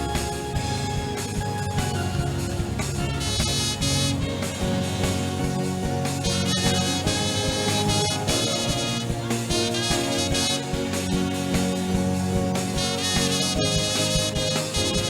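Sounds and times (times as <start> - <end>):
church band instrumental music: 0.0 - 15.0.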